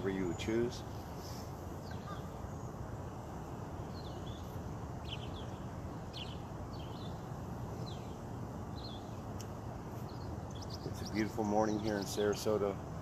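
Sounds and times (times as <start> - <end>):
bird chirping: 0.0 - 12.7
distant highway traffic rumble: 0.0 - 13.0.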